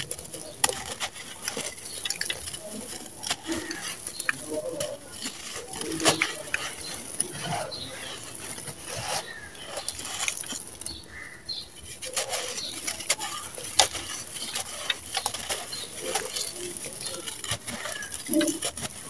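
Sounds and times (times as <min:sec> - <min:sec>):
grit and stones pattering down: 0:00.0 - 0:19.0
sand and cement crumbled by hand: 0:00.0 - 0:19.0.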